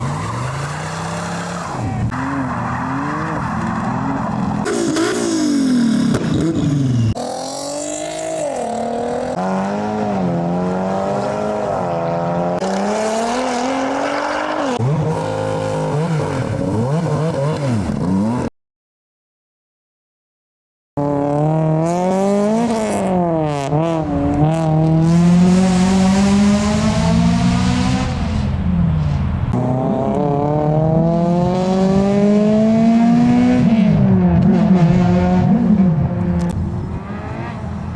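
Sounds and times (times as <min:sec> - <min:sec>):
car engines revving: 0:00.0 - 0:18.5, 0:21.0 - 0:37.9.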